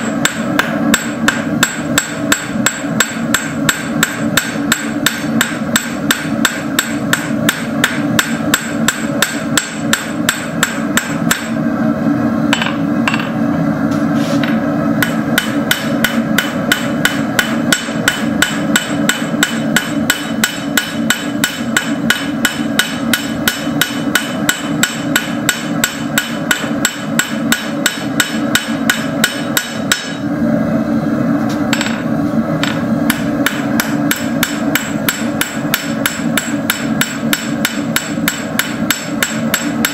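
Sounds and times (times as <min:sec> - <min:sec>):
hammer striking steel on anvil: 0:00.0 - 0:11.6, 0:12.5 - 0:13.4, 0:15.0 - 0:30.3, 0:31.7 - 0:32.0, 0:32.6 - 0:39.9.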